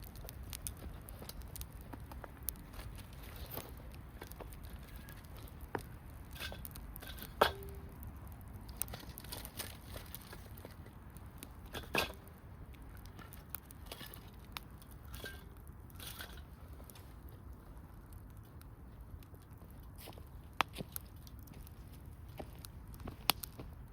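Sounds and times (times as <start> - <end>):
campfire crackling: 0.0 - 23.9
fire popping: 0.0 - 23.9.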